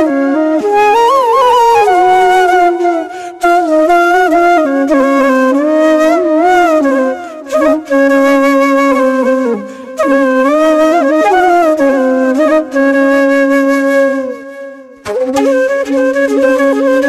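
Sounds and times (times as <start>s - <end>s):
flute melody with sliding notes: 0.0s - 17.0s.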